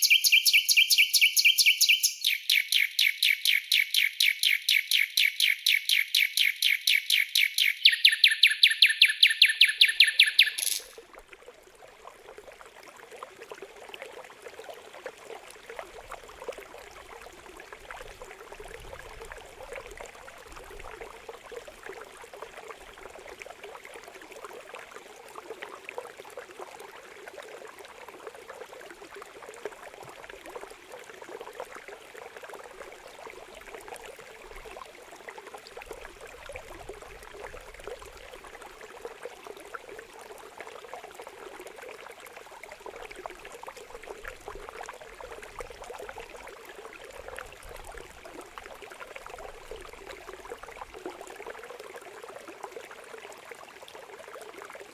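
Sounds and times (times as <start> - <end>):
stream trickling and gurgling: 0.0 - 54.9.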